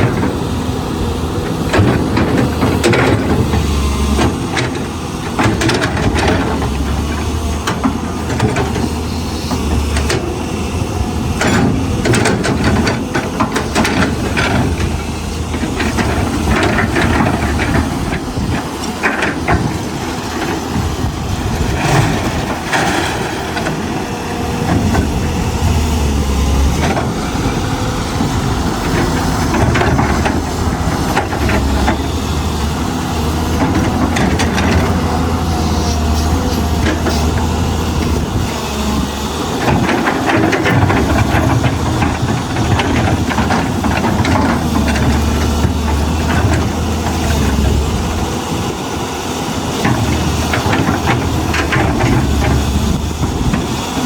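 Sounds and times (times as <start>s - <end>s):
excavator engine running: 0.0s - 54.0s
clanks and knocks: 1.4s - 10.3s, 11.3s - 23.9s, 26.4s - 48.3s.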